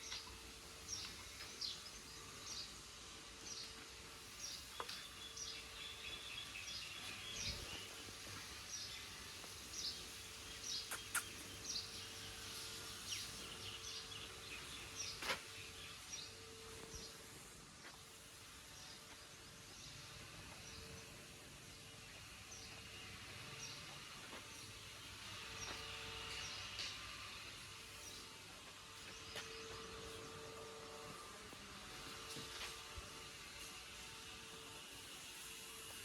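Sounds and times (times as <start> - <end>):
small birds chirping: 0.0 - 31.3.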